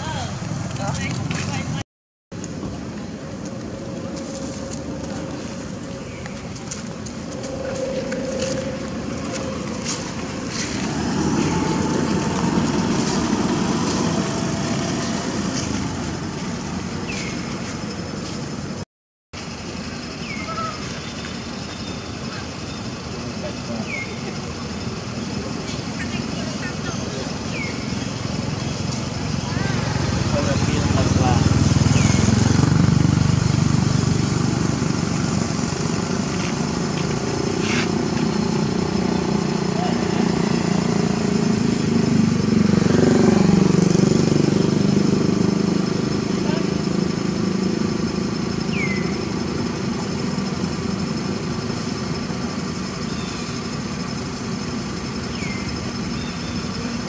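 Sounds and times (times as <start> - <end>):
passing vehicle engine and tyres: 2.4 - 18.8, 19.4 - 57.0.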